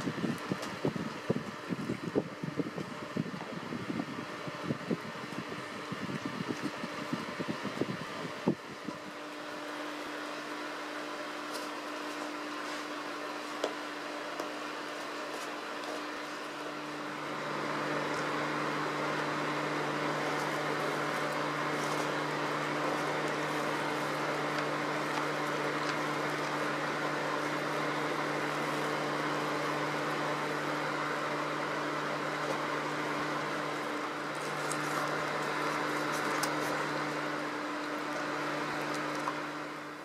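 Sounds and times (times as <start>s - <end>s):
electric fan running: 0.0s - 40.0s.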